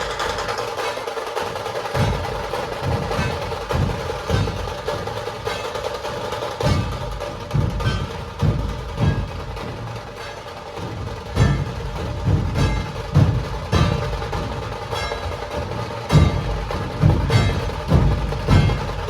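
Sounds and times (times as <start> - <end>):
snare drums rattling fast: 0.0 - 19.0
deep drum strokes: 1.9 - 19.0.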